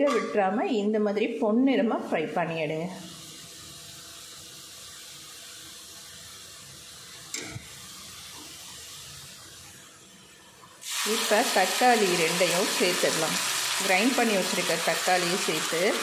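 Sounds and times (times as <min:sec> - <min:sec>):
onions sizzling in a pan: 0:03.0 - 0:16.0.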